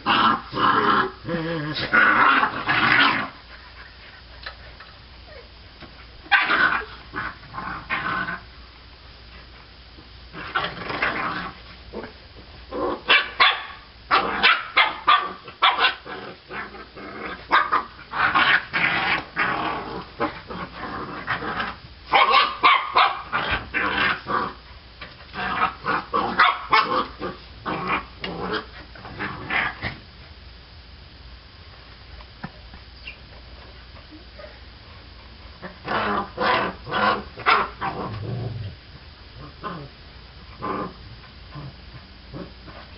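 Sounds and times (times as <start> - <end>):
puppies growling: 0.0 - 5.6, 6.3 - 8.6, 10.3 - 13.4, 14.1 - 22.6, 23.2 - 30.0, 34.0 - 42.9.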